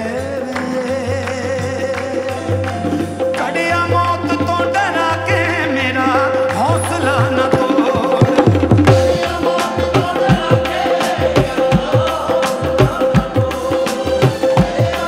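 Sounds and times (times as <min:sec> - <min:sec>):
hand drum rhythm: 0:00.0 - 0:15.0
person singing: 0:00.0 - 0:15.0.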